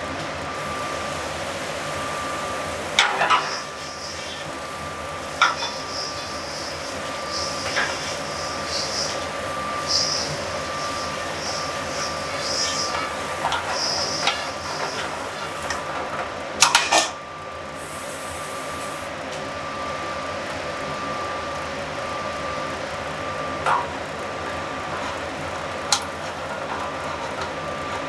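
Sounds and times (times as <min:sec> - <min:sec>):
gas range and exhaust hood hiss: 0:00.0 - 0:28.0.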